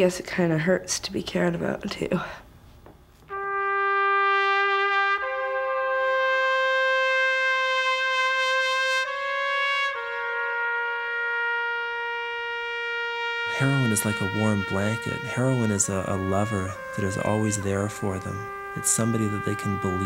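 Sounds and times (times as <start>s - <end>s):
solo trumpet long notes: 3.3s - 20.0s.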